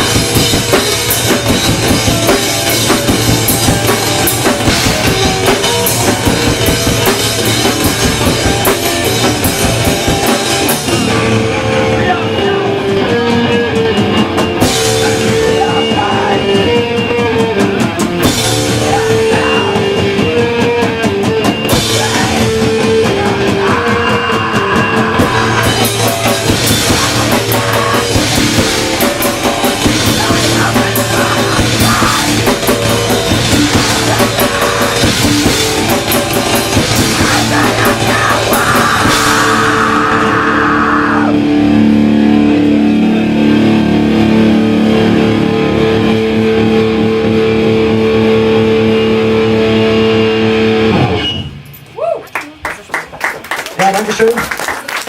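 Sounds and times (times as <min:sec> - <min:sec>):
distorted electric guitars: 0:00.0 - 0:52.0
drum kit: 0:00.0 - 0:52.6.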